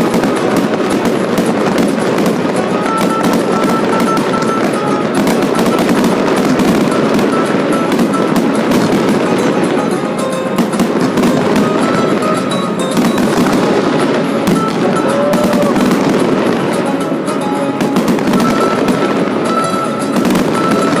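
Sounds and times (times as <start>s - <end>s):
fireworks crackling and popping: 0.0s - 21.0s
music playing: 0.0s - 21.0s.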